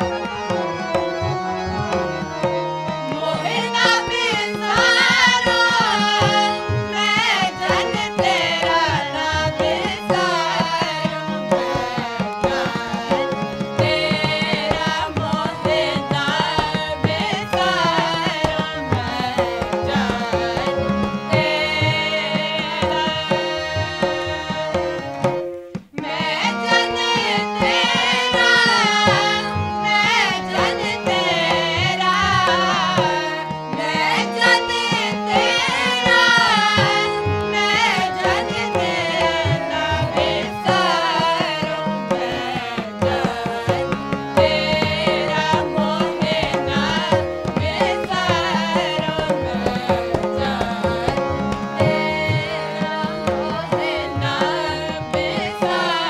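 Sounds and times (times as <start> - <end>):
harmoniums: 0.0 - 56.0
tabla drumming: 0.0 - 56.0
voices singing: 0.0 - 56.0.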